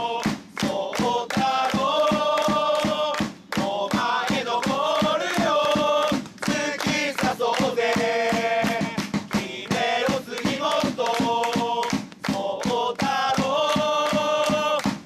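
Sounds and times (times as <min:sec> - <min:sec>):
crowd chanting in unison: 0:00.0 - 0:15.0
drum beat: 0:00.0 - 0:15.0.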